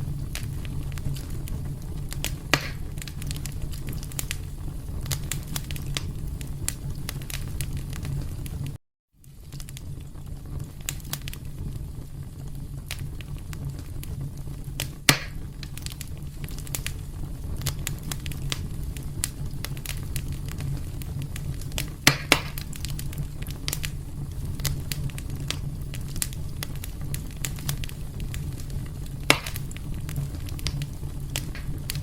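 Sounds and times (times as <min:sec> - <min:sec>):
fire pops: 0:00.0 - 0:32.0
wood fire crackling: 0:00.0 - 0:32.0.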